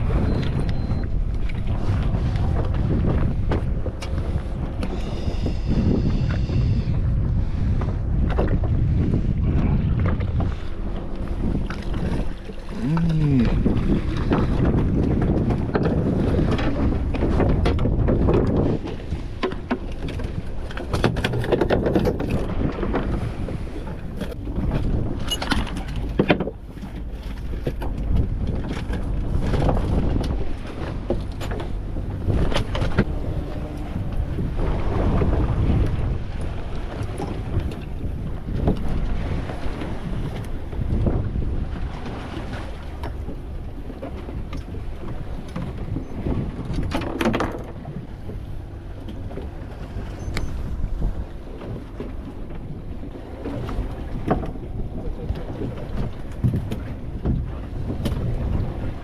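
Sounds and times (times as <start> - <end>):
boat engine running low: 0.0 - 59.0
sea wash: 0.0 - 59.0
water against hull: 0.0 - 59.0
wind buffeting microphone: 0.0 - 59.0.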